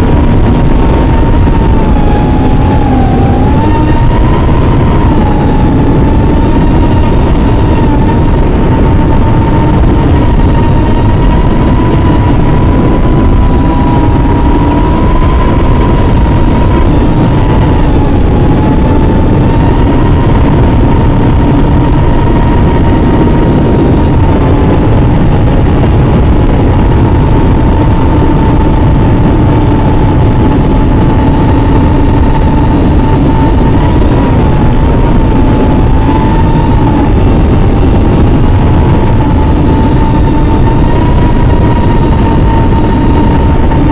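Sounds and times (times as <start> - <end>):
drone motors whining: 0.0 - 43.9
loud rushing noise: 0.0 - 43.9.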